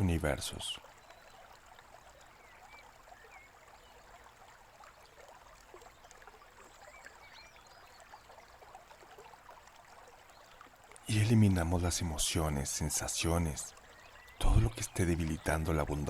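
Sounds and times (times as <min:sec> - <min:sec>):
small stream trickling: 0:00.0 - 0:16.0
faint bird chirps: 0:00.3 - 0:05.1, 0:05.7 - 0:09.3, 0:09.9 - 0:16.0.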